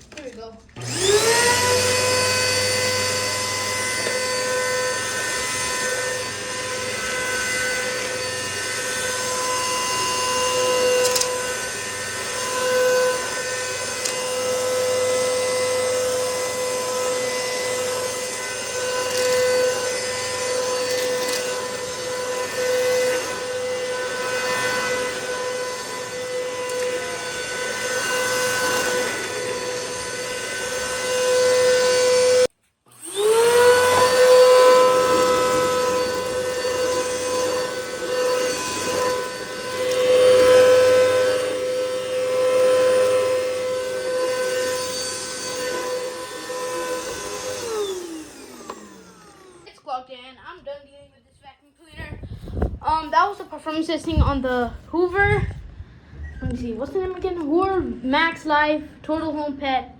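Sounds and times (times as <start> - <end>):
vacuum cleaner motor whine: 0.7 - 50.3.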